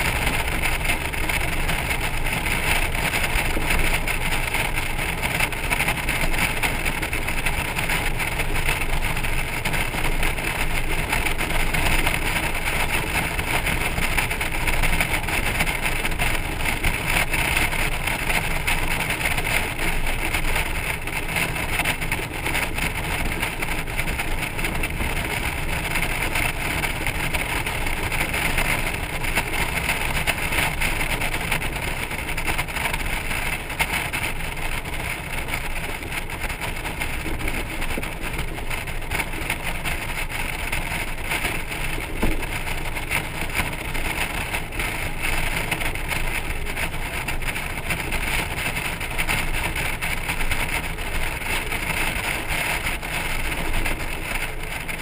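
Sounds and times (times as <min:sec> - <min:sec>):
motorcycle road noise: 0:00.0 - 0:55.0.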